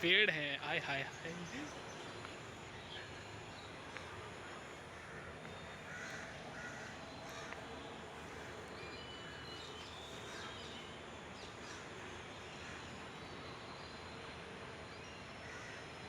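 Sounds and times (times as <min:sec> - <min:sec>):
forest birds calling: 0:00.0 - 0:16.0.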